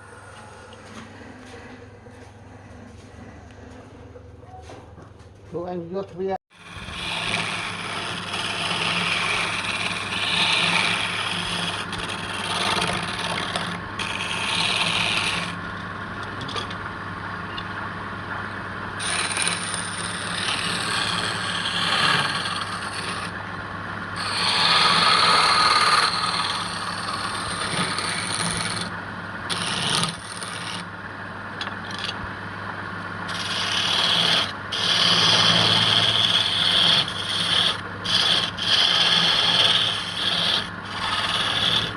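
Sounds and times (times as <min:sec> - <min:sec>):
wood lathe motor hum: 0:06.5 - 0:32.3, 0:32.9 - 0:41.9
scraping spinning wood: 0:06.5 - 0:41.9.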